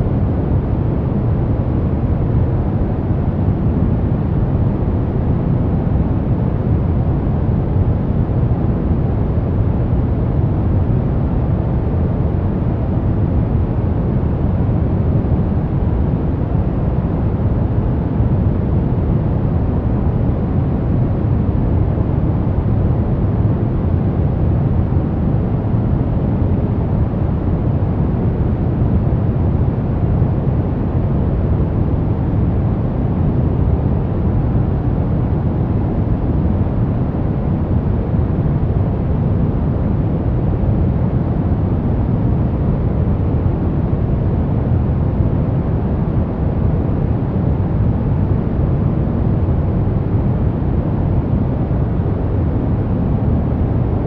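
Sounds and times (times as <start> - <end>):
deep muffled steady noise: 0.0 - 54.0.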